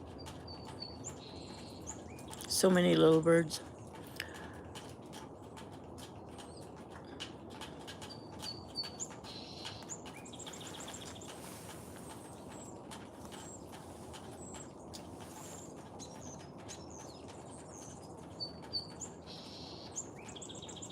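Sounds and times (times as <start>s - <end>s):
small songbirds chirping: 0.0s - 20.9s.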